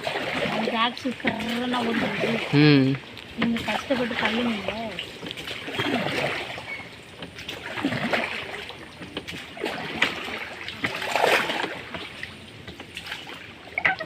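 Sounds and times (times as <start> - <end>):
oars splashing in water: 0.0 - 14.0.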